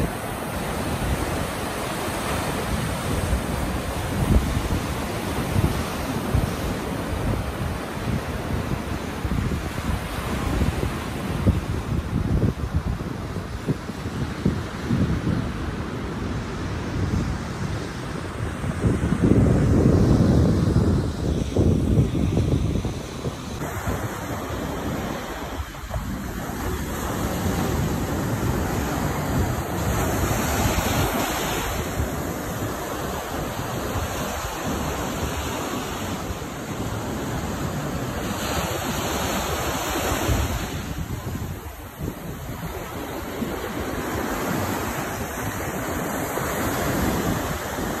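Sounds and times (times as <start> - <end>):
surf breaking on a beach: 0.0 - 48.0
wind rumbling on microphone: 0.0 - 48.0.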